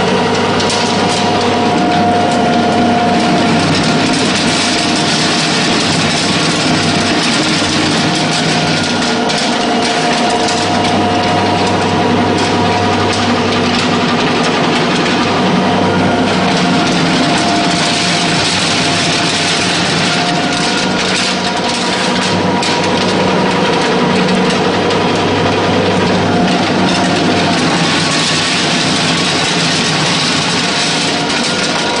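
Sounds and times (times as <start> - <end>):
electric motor hum: 0.0 - 32.0
gritty rushing of feed pressed: 0.0 - 32.0
steady whine: 0.0 - 32.0.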